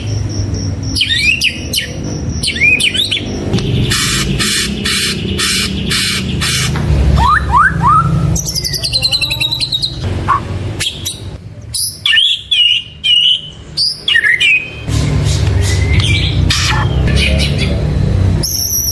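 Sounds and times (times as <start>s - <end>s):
songbird whistling and trilling: 0.0s - 17.8s, 18.4s - 18.9s.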